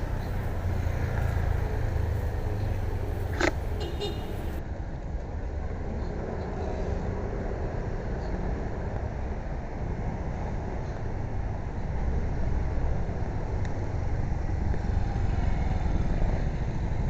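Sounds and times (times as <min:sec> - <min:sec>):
road traffic rumble: 0:00.0 - 0:17.0
wind and road hiss: 0:00.0 - 0:17.0.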